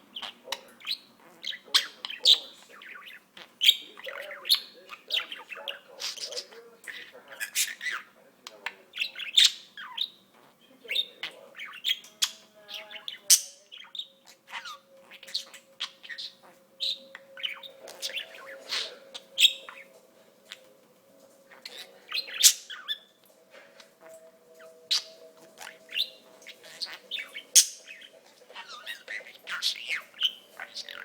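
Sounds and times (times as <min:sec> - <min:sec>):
budgerigar chirping: 0:00.1 - 0:19.9, 0:21.5 - 0:31.0.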